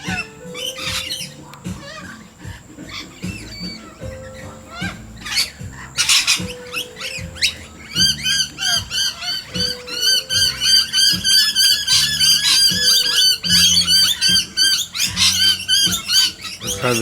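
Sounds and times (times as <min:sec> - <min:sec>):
birds chirping rapidly: 0:00.0 - 0:17.0
birds squawking: 0:00.0 - 0:17.0.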